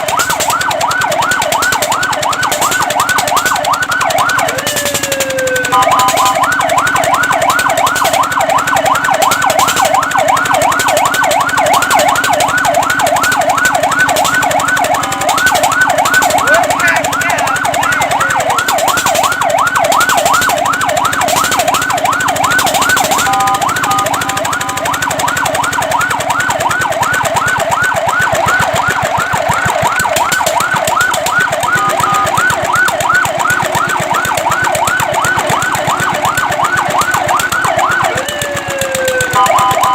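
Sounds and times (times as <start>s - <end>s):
fire truck siren yelping: 0.0s - 39.9s.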